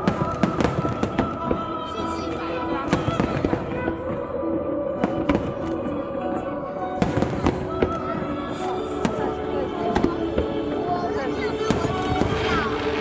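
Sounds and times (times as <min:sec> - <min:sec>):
fireworks bangs and crackles: 0:00.0 - 0:04.4, 0:05.0 - 0:05.6, 0:07.0 - 0:13.0
music playing: 0:00.0 - 0:13.0.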